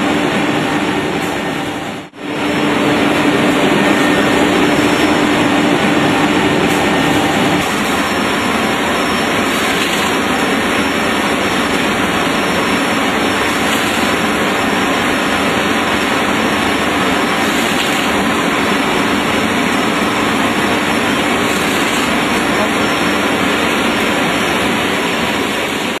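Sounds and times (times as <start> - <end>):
dense machine noise: 0.0 - 26.0.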